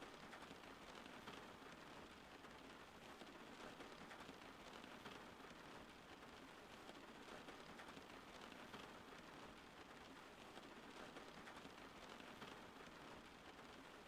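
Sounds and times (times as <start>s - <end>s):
faint rain falling: 0.0s - 14.0s.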